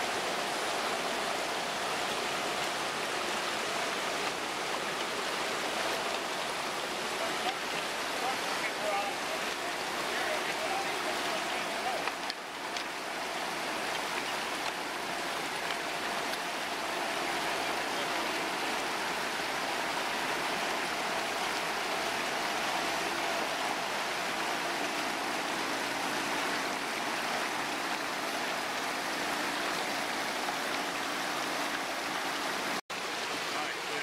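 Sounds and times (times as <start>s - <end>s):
stream rushing over stones: 0.0s - 34.0s.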